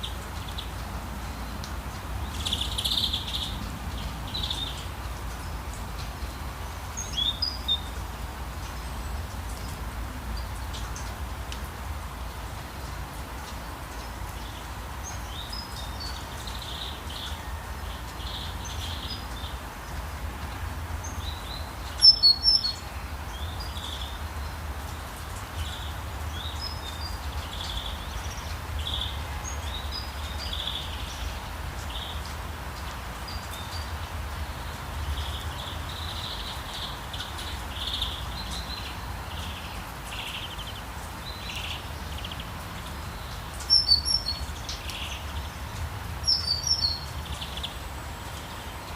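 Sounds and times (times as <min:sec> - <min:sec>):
bird chirps and songs: 0:00.0 - 0:48.9
steady rain: 0:00.0 - 0:48.9.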